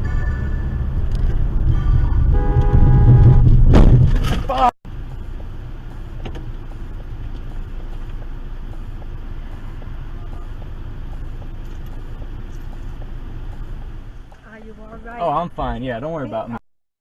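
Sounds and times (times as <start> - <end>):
car engine and road noise: 0.0 - 16.6.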